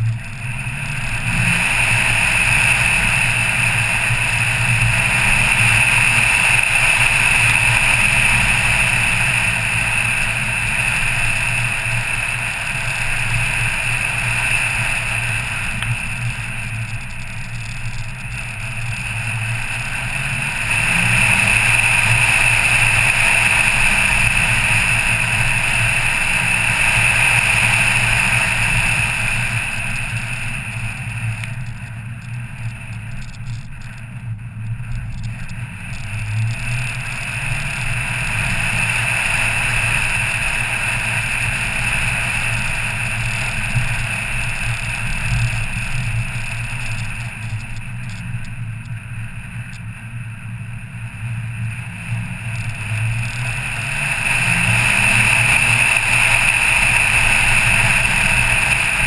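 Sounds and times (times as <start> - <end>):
car engine hum: 0.0 - 59.0
wind noise: 0.0 - 59.0.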